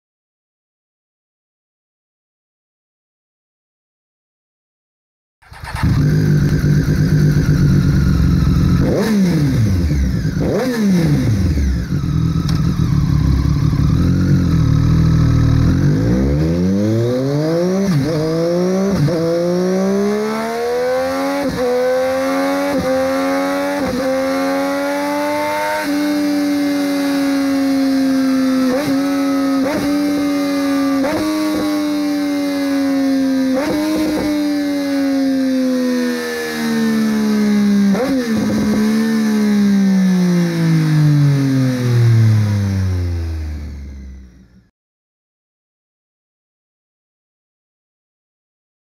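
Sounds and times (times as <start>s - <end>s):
motorcycle engine revving: 5.4s - 44.7s.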